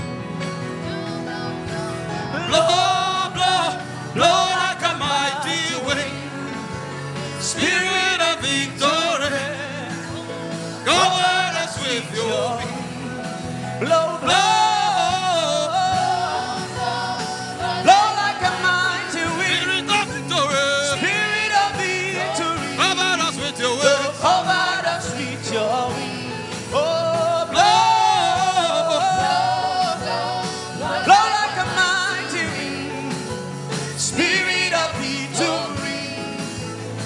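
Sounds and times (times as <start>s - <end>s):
instrumental backing with steady beat: 0.0s - 37.0s.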